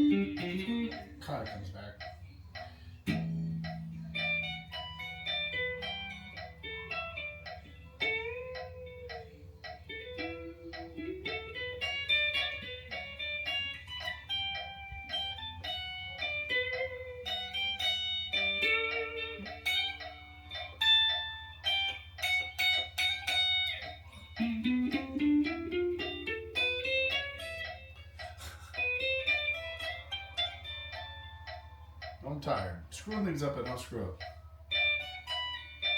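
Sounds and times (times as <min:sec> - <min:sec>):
guitar picked single notes: 0:00.0 - 0:35.9.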